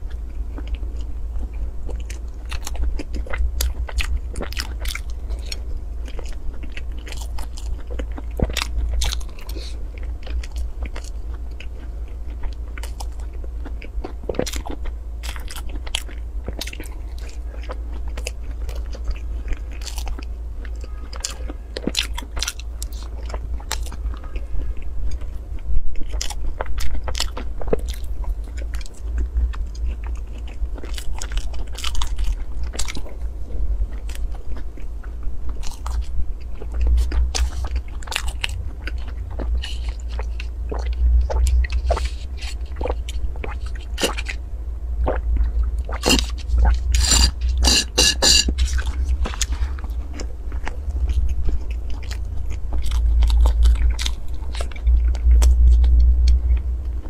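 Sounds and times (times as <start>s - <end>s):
crunchy chewing: 0.0s - 57.0s
steady low hum: 0.0s - 57.0s.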